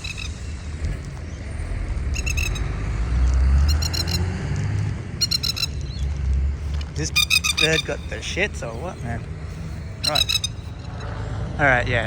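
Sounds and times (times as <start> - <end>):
bird alarm calls chattering: 0.0 - 11.1
passing traffic rumble: 0.0 - 12.0.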